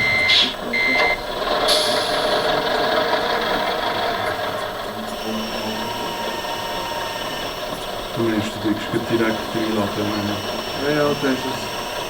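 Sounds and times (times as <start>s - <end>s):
model truck mechanical hum: 0.0s - 12.0s.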